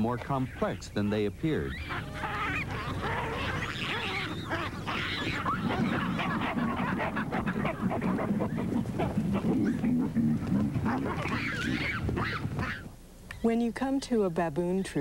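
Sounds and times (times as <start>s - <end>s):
baboons grunting and barking: 0.0s - 13.0s.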